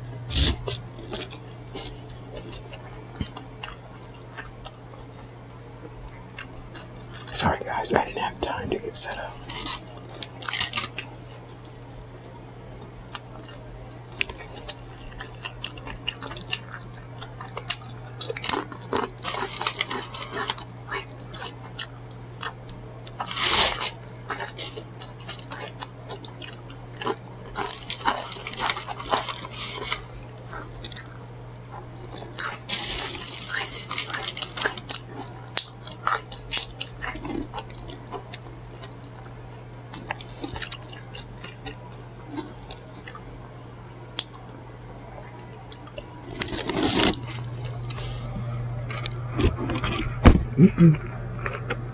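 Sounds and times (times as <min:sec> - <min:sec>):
steady low hum: 0:00.0 - 0:51.9
chewing and crunching food: 0:00.2 - 0:51.9.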